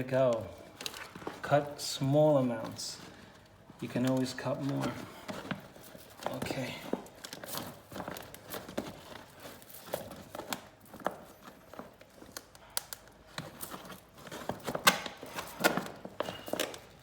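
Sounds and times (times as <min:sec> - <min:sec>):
wallpaper crinkling and rustling: 0:00.0 - 0:17.0.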